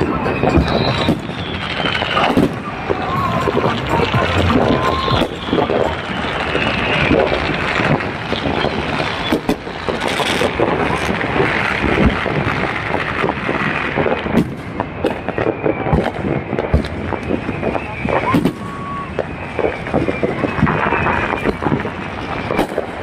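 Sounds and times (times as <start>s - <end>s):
fireworks popping and crackling: 0.0s - 23.0s
rushing microphone noise: 0.0s - 23.0s.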